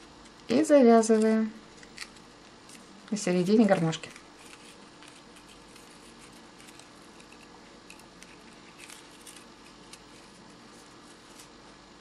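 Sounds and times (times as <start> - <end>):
room hiss: 0.0 - 12.0
paper rustling: 1.7 - 11.6.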